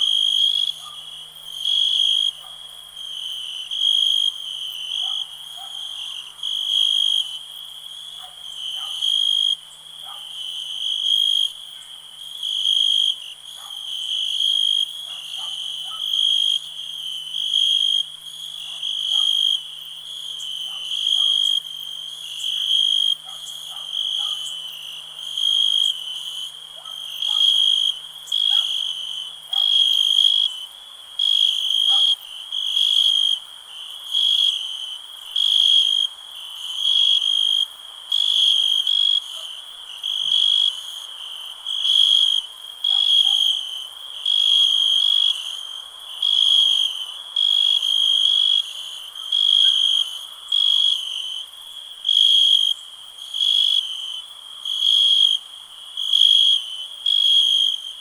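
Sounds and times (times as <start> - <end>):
crickets trilling in chorus: 0.0 - 58.0.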